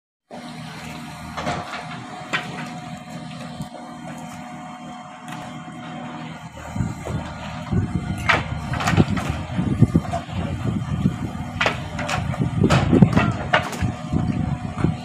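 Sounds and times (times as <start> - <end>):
motor humming and whining: 0.3 - 15.0.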